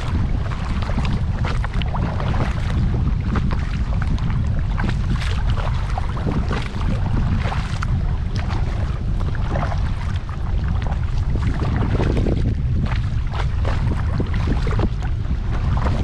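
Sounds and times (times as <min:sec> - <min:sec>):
kayak paddle splashing: 0:00.0 - 0:16.0
wind rumble on microphone: 0:00.0 - 0:16.0.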